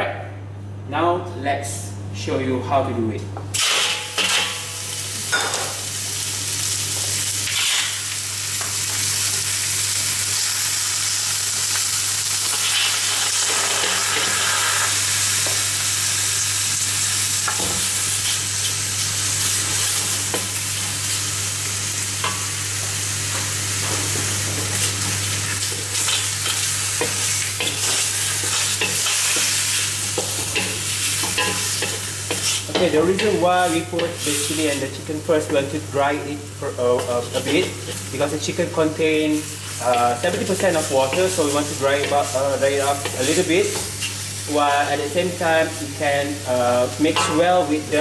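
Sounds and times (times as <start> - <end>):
chicken sizzling in a wok: 3.8 - 48.0.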